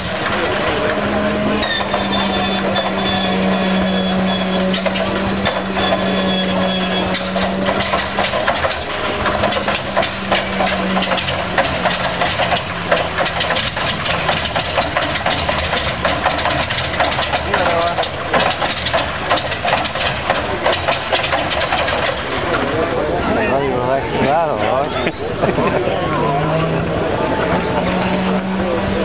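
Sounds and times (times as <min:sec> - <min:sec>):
engine starter whine: 0:00.0 - 0:29.0
radial engine firing: 0:00.0 - 0:29.0.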